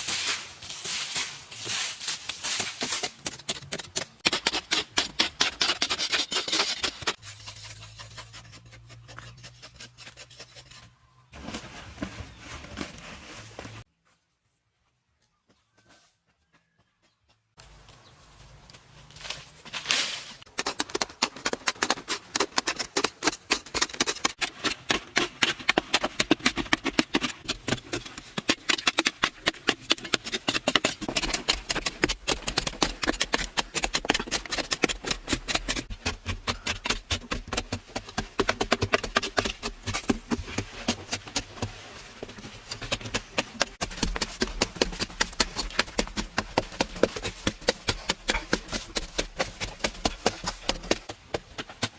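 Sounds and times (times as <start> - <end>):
rapid sharp knocks and scrapes: 0.0 - 10.9, 20.4 - 51.9.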